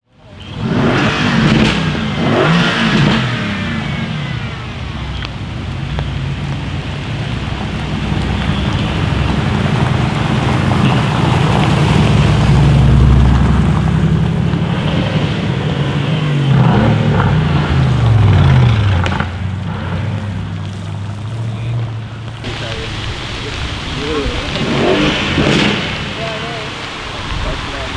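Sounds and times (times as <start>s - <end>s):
car engine running hard: 0.1s - 27.9s.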